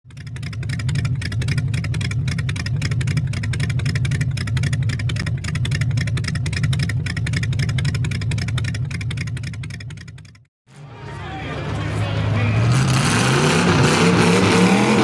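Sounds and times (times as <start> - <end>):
unmuffled car engines running: 0.0 - 15.0.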